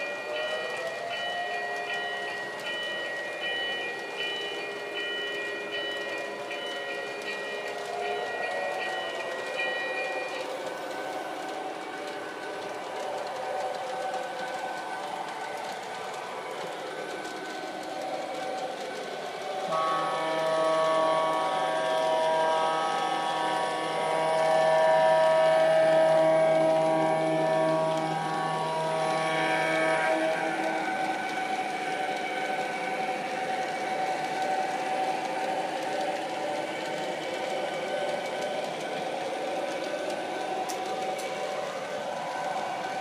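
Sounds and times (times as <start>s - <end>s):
model train running hum: 0.0s - 43.0s.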